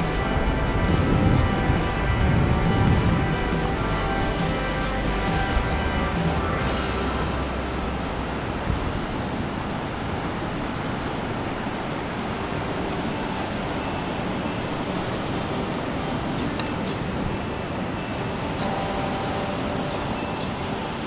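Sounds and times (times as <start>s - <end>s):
surf washing up beach: 0.0s - 21.0s
wind: 0.0s - 21.0s.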